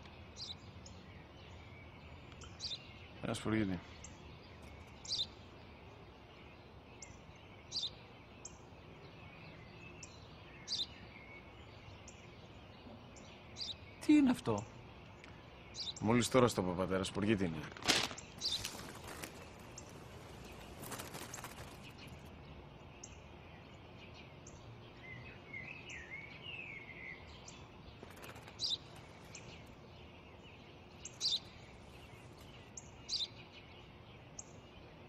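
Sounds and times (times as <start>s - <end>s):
faint outdoor hiss: 0.0s - 35.0s
small birds chirping: 0.0s - 35.0s.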